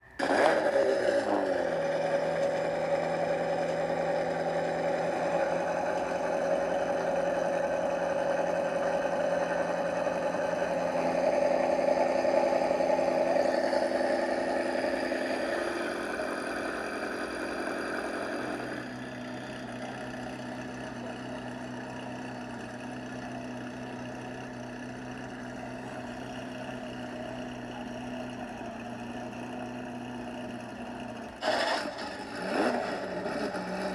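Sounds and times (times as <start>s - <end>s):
sports car engine revving: 0.1s - 33.9s.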